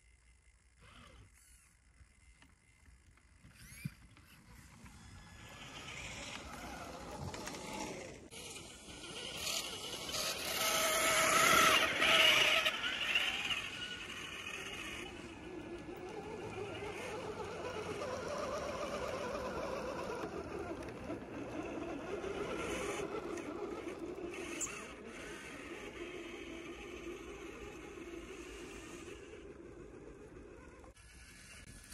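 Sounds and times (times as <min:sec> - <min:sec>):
electric motors whining: 0:00.0 - 0:31.9.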